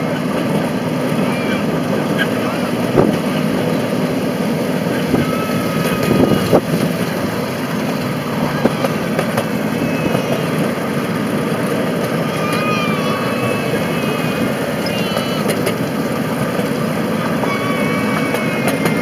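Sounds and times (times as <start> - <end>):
miniature train rumbling: 0.0 - 19.0.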